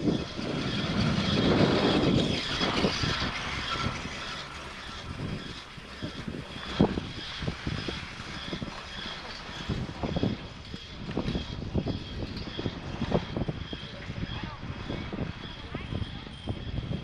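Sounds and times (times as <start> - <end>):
haul rope rumbling over wheels: 0.0 - 17.0.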